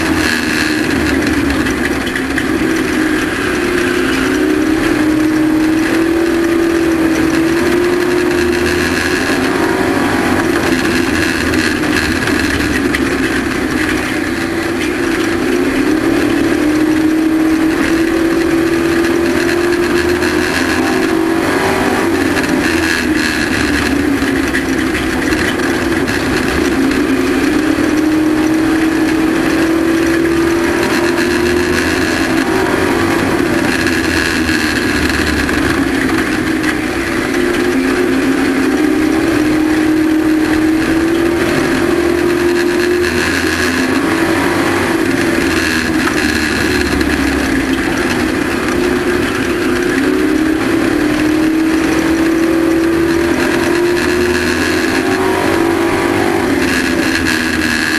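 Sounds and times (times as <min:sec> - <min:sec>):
race truck engine accelerating: 0:00.0 - 0:57.9
wind and road noise: 0:00.0 - 0:57.9.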